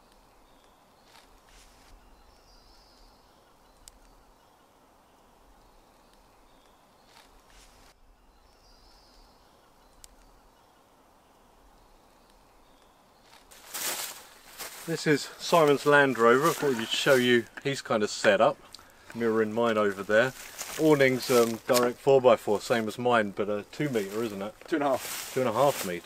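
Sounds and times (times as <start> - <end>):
distant bird chirps: 0.0 - 26.0.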